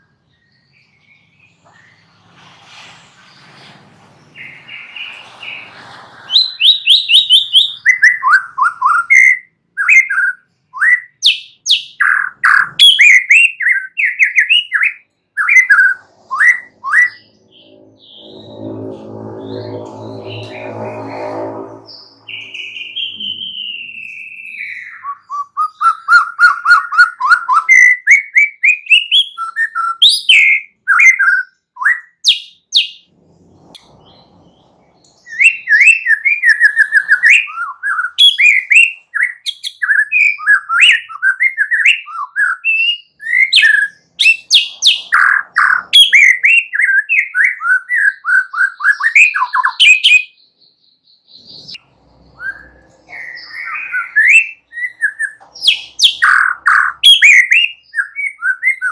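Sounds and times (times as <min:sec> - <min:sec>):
bird singing: 0:00.0 - 0:02.2, 0:04.2 - 0:33.0, 0:33.8 - 0:58.9.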